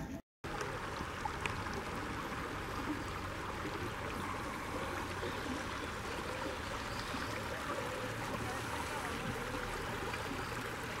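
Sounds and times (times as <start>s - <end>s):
stream flowing over rocks: 0.4s - 11.0s.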